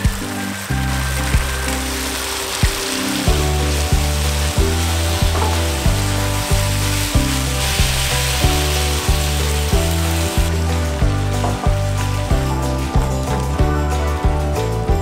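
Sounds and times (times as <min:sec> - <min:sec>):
background music with low beat: 0:00.0 - 0:15.0
food sizzling in a wok: 0:00.0 - 0:15.0.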